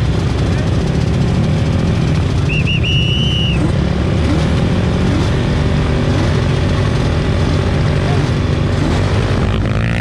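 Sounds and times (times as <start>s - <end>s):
engine throttle blips: 0.0s - 10.0s
quad bike engines idling: 0.0s - 10.0s.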